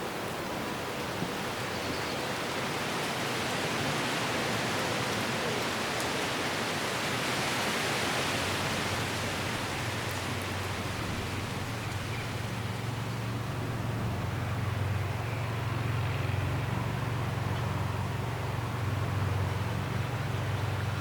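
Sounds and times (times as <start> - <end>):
wind rustling leaves: 0.0 - 21.0.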